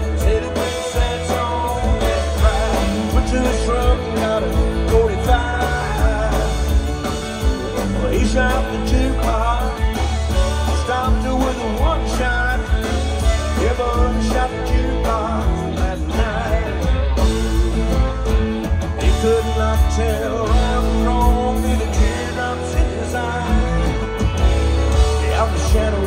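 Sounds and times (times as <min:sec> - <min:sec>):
bass guitar: 0:00.0 - 0:26.0
drums: 0:00.0 - 0:26.0
guitars: 0:00.0 - 0:26.0.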